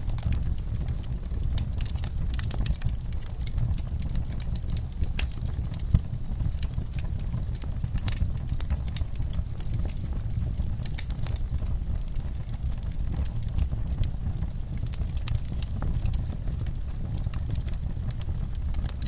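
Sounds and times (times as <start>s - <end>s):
fire crackles and pops: 0.0s - 19.0s
fireplace flames rumbling: 0.0s - 19.0s.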